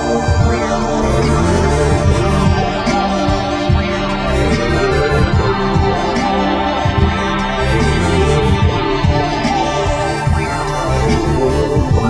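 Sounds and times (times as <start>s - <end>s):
sustained music chords: 0.0s - 12.0s.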